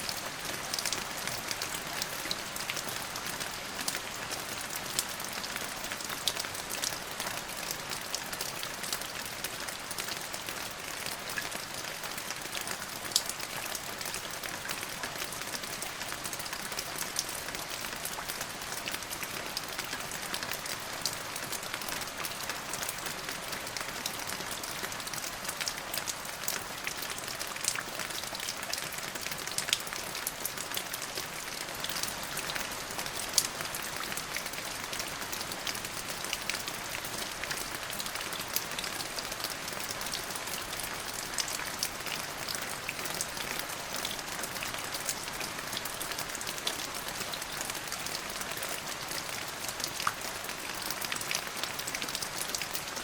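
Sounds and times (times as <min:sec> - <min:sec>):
rain falling: 0:00.0 - 0:53.0.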